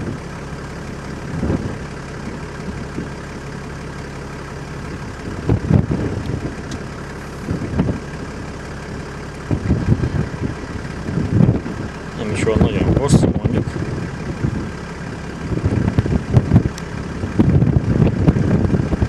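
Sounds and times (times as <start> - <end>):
car engine idling: 0.0 - 19.0
short low rumbles: 0.0 - 19.0.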